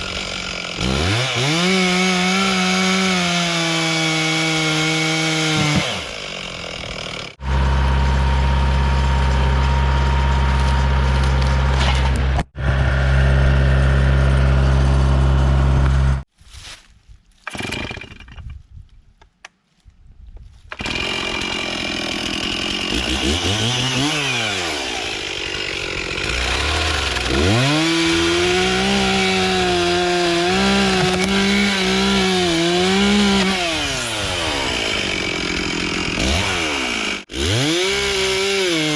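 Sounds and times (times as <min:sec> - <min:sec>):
chainsaw cutting log: 0:00.0 - 0:16.2, 0:17.4 - 0:18.4, 0:20.7 - 0:38.9.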